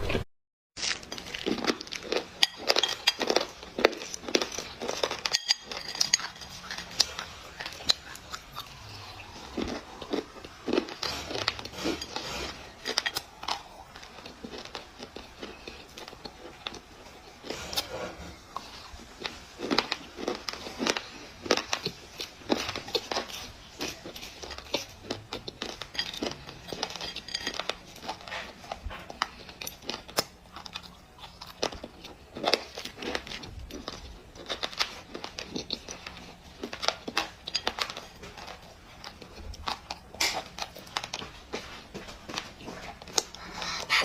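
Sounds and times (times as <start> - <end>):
crunchy chewing: 0.8 - 44.0.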